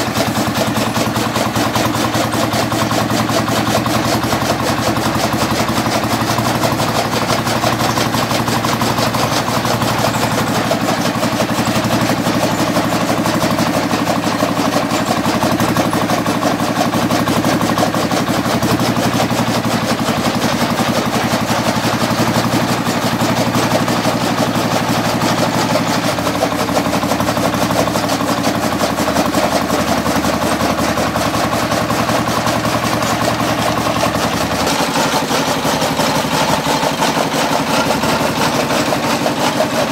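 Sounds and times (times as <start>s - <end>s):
chaff cutter blades clattering: 0.0s - 39.9s
diesel engine running under load: 0.0s - 39.9s.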